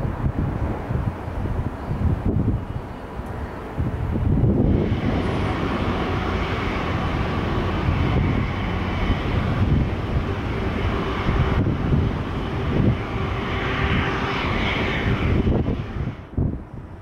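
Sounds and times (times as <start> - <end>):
faint engine whine: 0.0 - 17.0
jet engines at takeoff power: 0.0 - 17.0.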